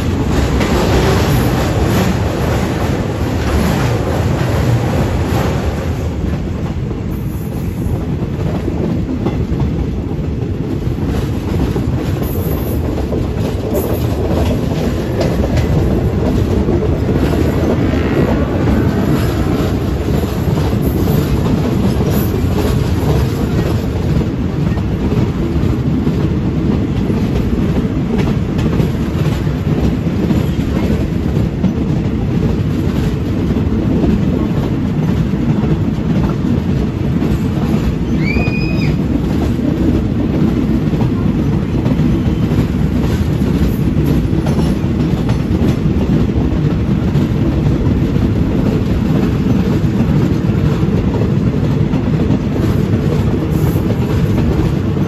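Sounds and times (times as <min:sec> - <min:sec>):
train wheels rumbling clickety-clack: 0:00.0 - 0:55.0.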